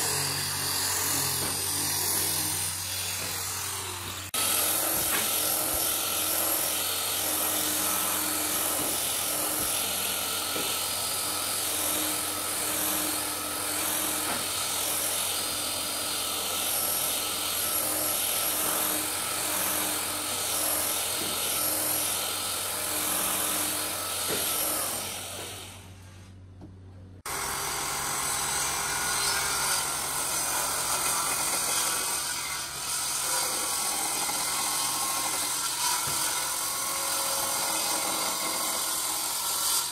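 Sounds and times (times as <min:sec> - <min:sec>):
belt sander on wood: 0:00.0 - 0:26.0, 0:27.3 - 0:39.9
handheld power tool on wood: 0:00.0 - 0:26.3, 0:27.2 - 0:39.9.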